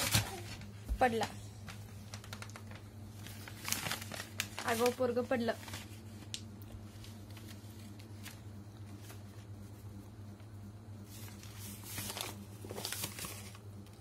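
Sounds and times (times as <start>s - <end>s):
paper rustling: 0.0s - 9.5s, 11.0s - 14.0s
steady low hum: 0.0s - 14.0s.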